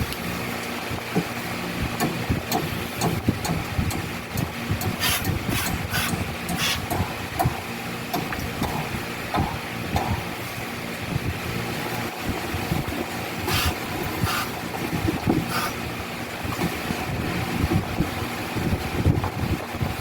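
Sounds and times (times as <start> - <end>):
air compressor motor running: 0.0 - 20.0.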